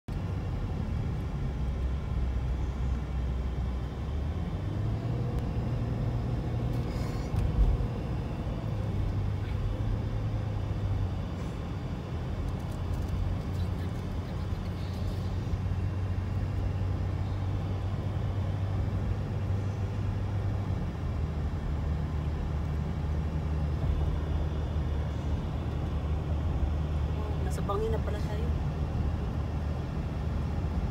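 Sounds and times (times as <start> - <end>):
moving vehicle rumble: 0.0 - 30.9.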